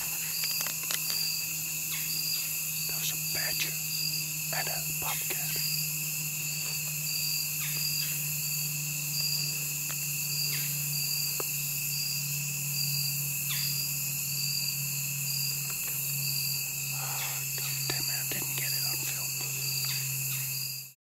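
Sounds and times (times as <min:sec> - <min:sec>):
crickets chirping: 0:00.0 - 0:21.0
steady low hum: 0:00.0 - 0:21.0.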